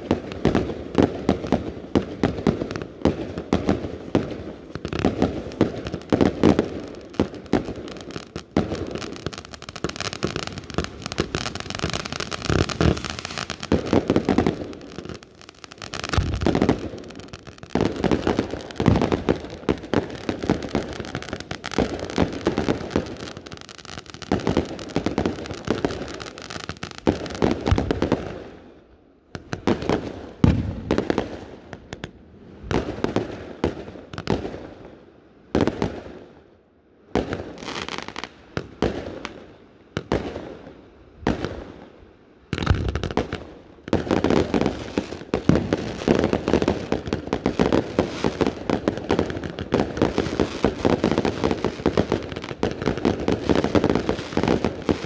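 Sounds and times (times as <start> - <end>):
fireworks bangs and crackling: 0.0 - 28.8, 29.4 - 36.4, 37.0 - 55.0.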